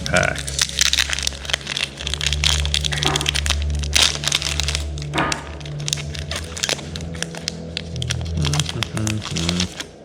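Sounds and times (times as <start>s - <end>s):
playing cards flicking and snapping: 0.0s - 10.0s.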